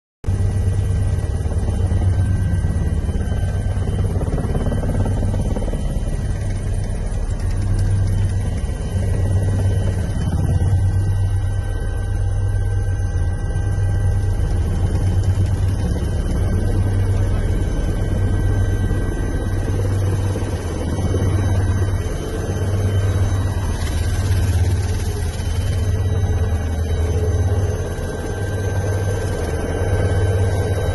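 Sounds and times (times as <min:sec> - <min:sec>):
faint steady whine: 0:00.3 - 0:30.9
helicopter rotor and engine drone: 0:00.3 - 0:30.9.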